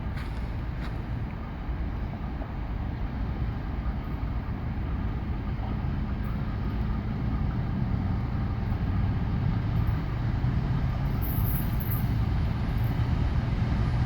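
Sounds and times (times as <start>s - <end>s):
freight train rumbling and rattling: 0.0s - 14.0s.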